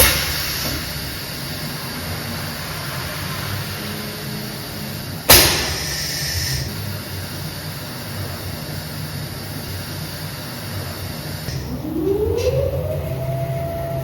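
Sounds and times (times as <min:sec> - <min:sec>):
loud hiss: 0:00.0 - 0:11.5
low machine hum: 0:00.0 - 0:14.0.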